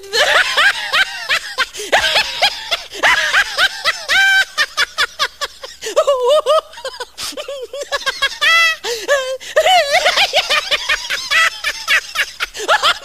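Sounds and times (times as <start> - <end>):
high-pitched laughter: 0.1 - 13.0.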